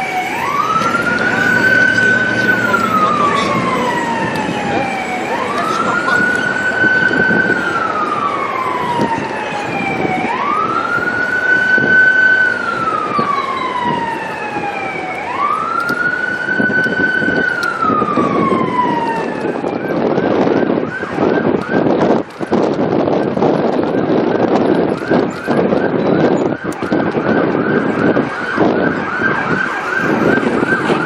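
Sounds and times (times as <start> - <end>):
electronic siren wailing and yelping: 0.0 - 31.0
wind and road noise: 0.0 - 31.0.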